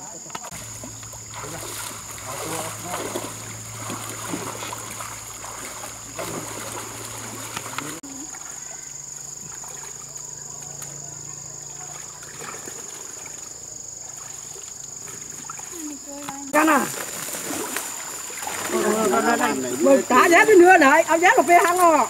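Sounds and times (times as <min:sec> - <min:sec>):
water sloshing and dribbling: 0:00.2 - 0:22.0
water splashing from wading: 0:00.4 - 0:22.0.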